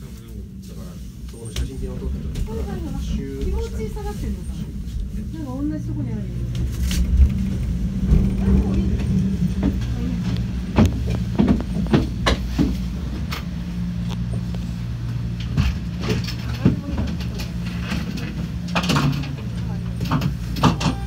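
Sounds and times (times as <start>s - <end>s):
low machine hum: 0.0s - 21.0s
gondola clacks and knocks: 1.3s - 21.0s.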